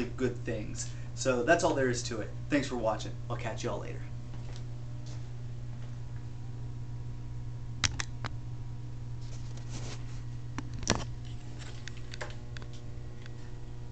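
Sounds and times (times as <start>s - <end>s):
low hum: 0.0s - 13.9s.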